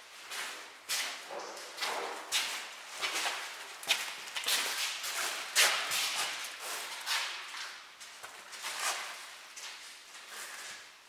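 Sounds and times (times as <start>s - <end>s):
footsteps scuffing on hard floor: 0.3s - 10.7s.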